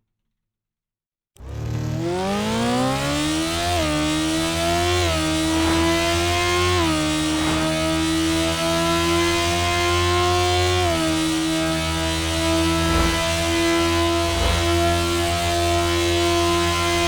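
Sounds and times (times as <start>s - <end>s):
motorcycle engine revving: 1.4s - 17.0s.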